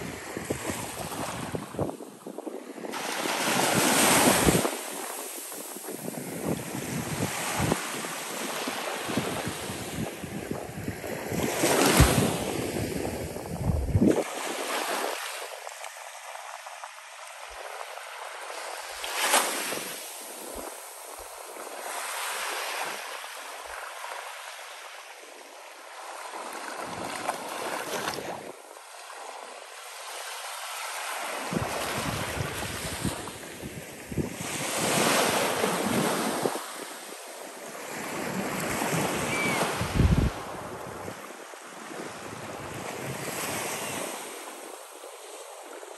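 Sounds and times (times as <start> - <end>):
wind rumble on microphone: 0.0 - 22.9, 31.4 - 37.3, 37.9 - 45.9
small waves breaking on sand: 0.0 - 45.9.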